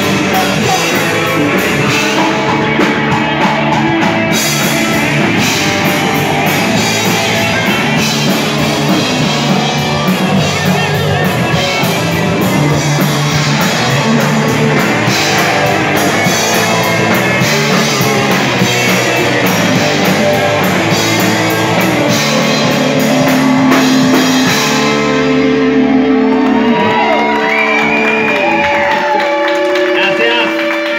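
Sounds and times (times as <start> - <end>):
drum kit and cymbals: 0.0 - 25.9
bass guitar: 0.0 - 30.9
distorted electric guitars: 0.0 - 30.9.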